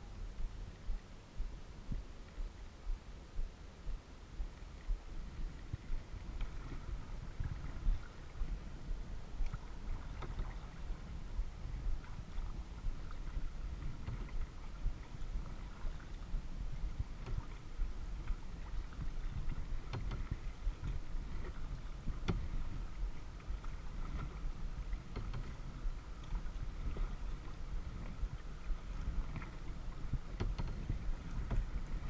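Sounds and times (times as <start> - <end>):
steady low rumble: 0.0 - 32.0
paddle splashing in water: 4.5 - 32.0.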